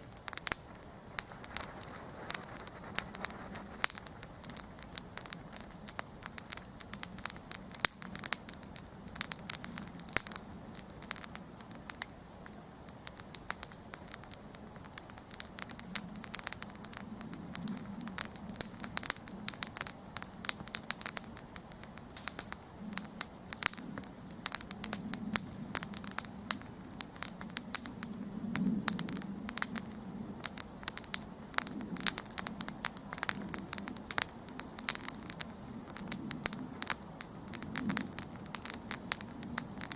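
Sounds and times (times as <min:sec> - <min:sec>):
campfire crackling and popping: 0:00.0 - 0:39.9
low rush of flames: 0:00.0 - 0:39.9.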